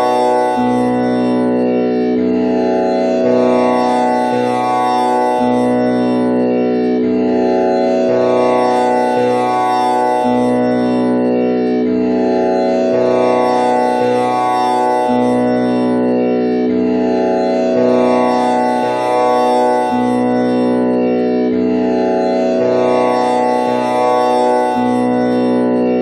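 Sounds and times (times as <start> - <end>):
tanpura drone: 0.0 - 26.0.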